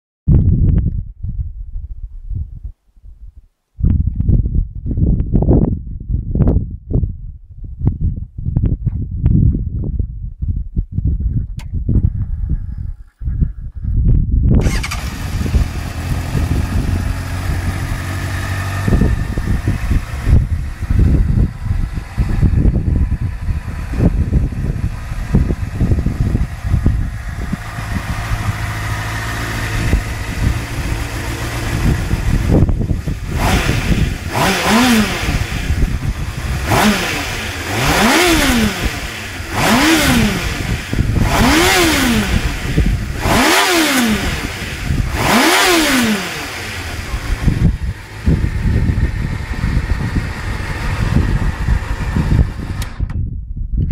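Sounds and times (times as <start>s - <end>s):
motorcycle engine idling and revving: 7.9s - 53.9s.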